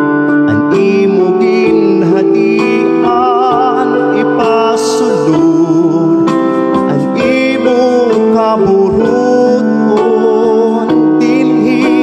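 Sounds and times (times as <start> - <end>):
keyboard accompaniment: 0.0 - 12.0
person singing with vibrato: 0.0 - 12.0.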